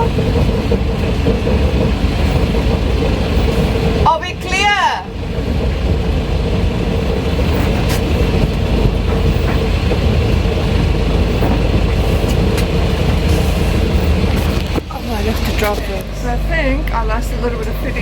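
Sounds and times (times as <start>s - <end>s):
boat engine running: 0.0s - 18.0s
wind rumbling on microphone: 0.0s - 18.0s.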